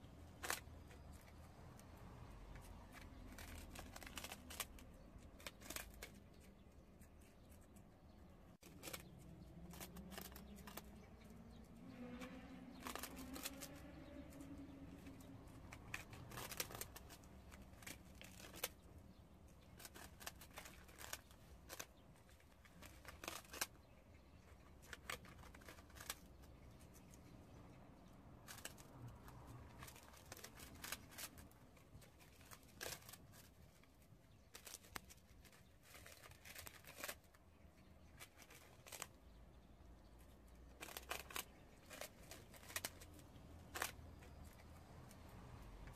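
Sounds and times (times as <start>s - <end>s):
animals crunching rice cakes: 0.0s - 45.9s.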